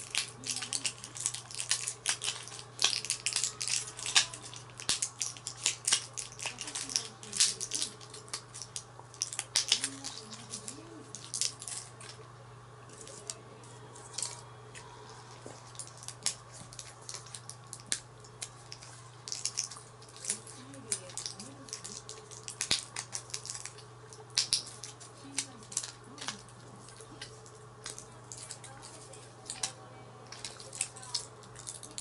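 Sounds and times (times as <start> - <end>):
blister packs crackling and clicking: 0.0 - 32.0
steady low hum: 0.0 - 32.0.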